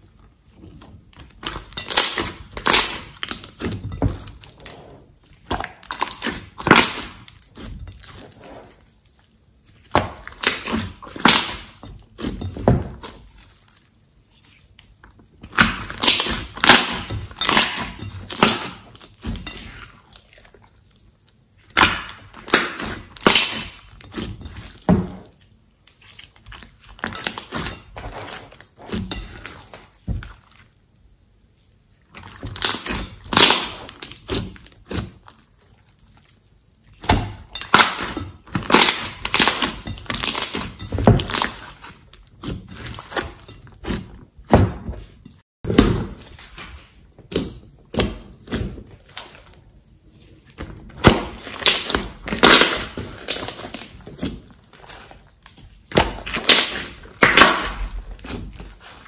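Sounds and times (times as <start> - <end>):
hands squishing slime: 0.0 - 30.8, 32.1 - 44.7, 45.7 - 59.0.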